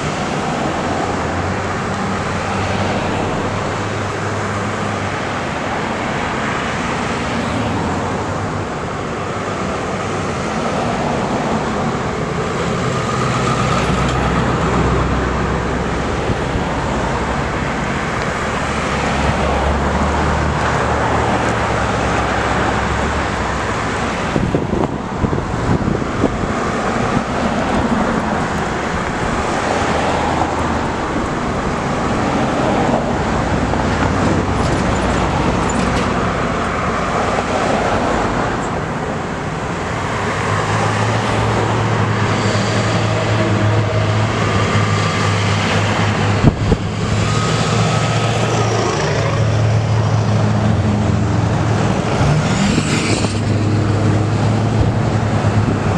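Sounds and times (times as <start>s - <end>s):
diesel trucks driving: 0.0s - 55.9s
road noise: 0.0s - 55.9s.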